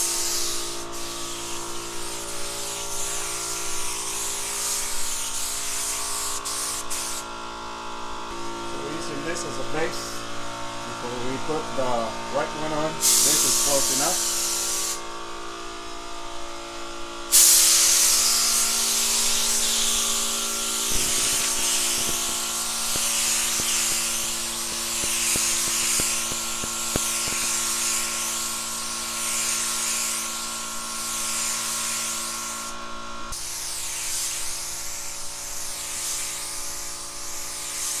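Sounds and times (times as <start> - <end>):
spray gun hissing: 0.0 - 7.3, 8.3 - 10.2, 10.9 - 15.1, 17.3 - 38.0
steady electric hum: 0.0 - 38.0.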